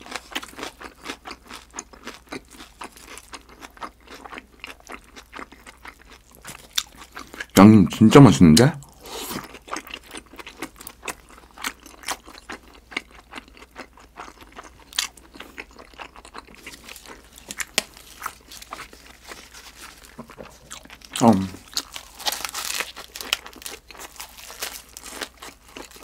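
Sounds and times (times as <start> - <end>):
person chewing with mouth clicks: 0.0 - 7.6, 8.6 - 26.0.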